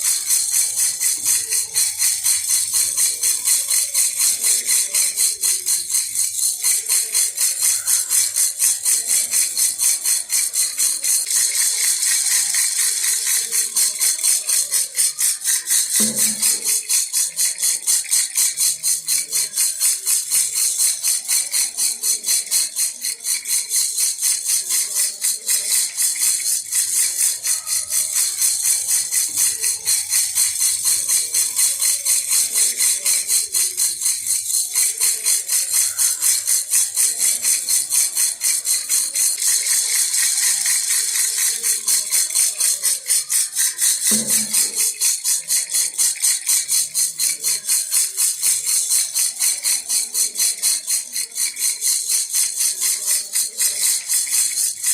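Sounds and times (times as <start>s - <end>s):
baby rattle jingling: 0.0s - 54.9s.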